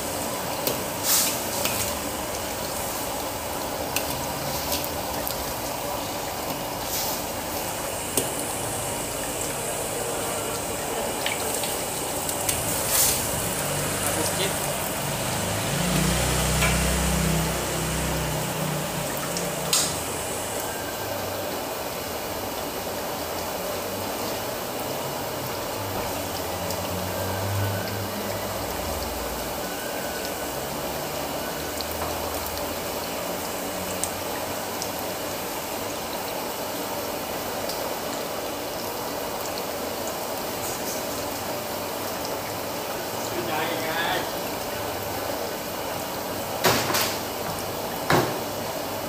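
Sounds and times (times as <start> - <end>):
soup bubbling in a wok: 0.0 - 43.4.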